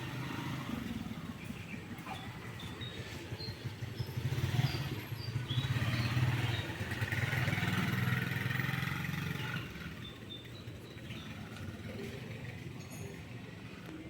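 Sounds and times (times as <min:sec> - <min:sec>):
vehicle engine passing by: 0:00.0 - 0:13.9.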